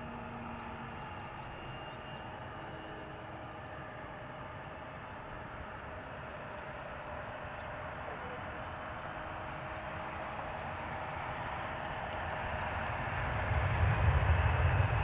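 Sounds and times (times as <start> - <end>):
jet airliner engines: 0.0 - 15.0.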